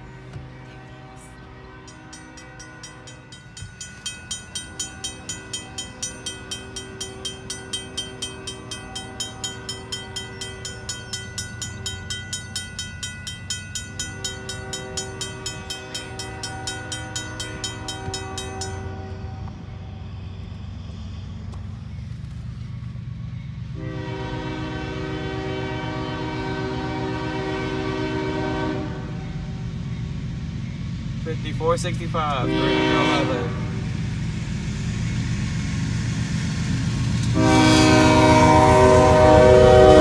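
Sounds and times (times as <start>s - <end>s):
railroad crossing bell ringing: 0.0s - 22.0s, 23.3s - 40.0s.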